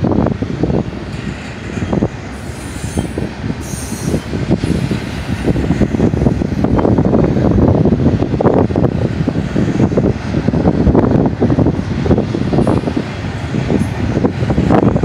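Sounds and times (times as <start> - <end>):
train cars clanking and rattling: 0.0 - 15.0
train wheels rumbling on rails: 0.0 - 15.0.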